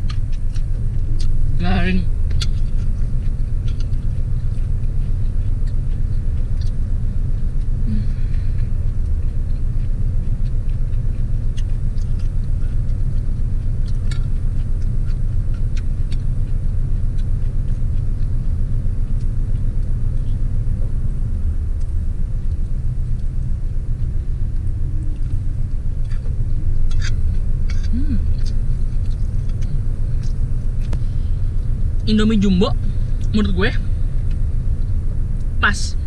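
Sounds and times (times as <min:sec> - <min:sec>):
car idling: 0:00.0 - 0:36.0.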